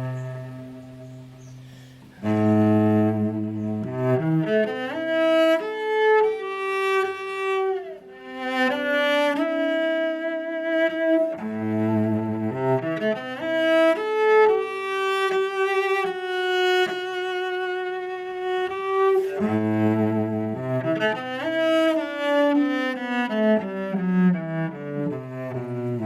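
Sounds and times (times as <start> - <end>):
solo cello melody: 0.0 - 26.0.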